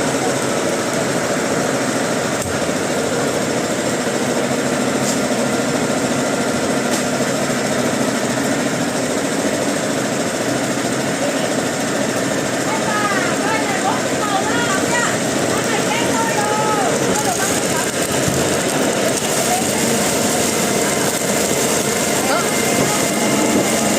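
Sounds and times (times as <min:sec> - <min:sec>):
log-processing machinery running: 0:00.0 - 0:23.9.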